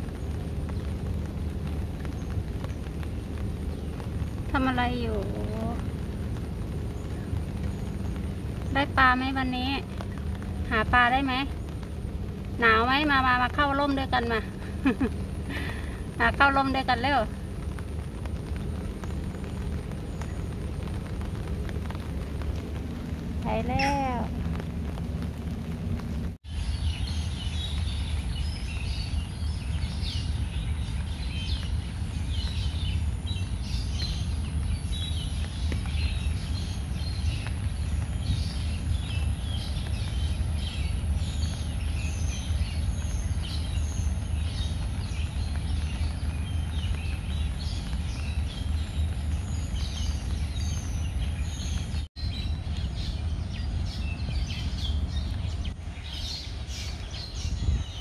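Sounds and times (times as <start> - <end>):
small birds chirping: 0.0 - 24.7, 25.3 - 58.0
low rumble: 0.0 - 58.0.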